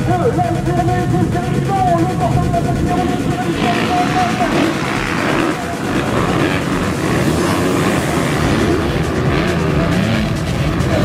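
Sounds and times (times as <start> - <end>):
motocross bikes revving: 0.0 - 11.0.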